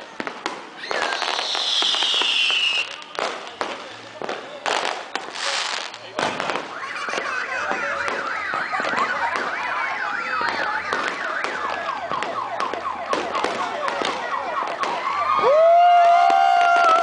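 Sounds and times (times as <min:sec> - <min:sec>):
fireworks popping and crackling: 0:00.0 - 0:17.0
fireworks whistling: 0:00.5 - 0:15.5.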